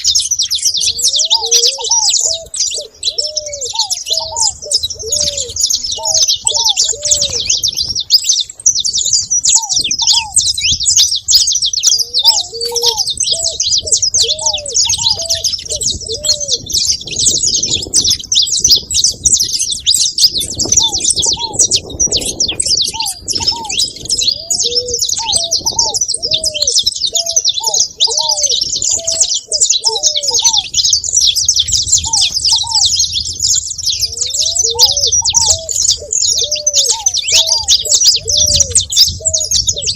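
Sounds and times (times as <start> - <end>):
doves cooing: 0.0 - 39.9
finches chattering high chirps: 0.0 - 39.9.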